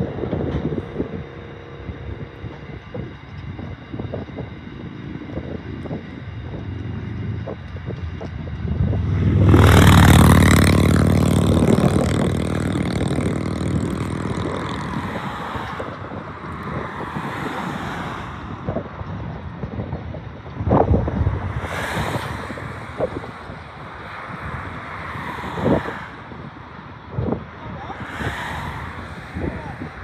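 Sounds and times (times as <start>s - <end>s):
freight train rumbling past: 0.0s - 30.0s
rushing swell with low hum: 0.0s - 30.0s.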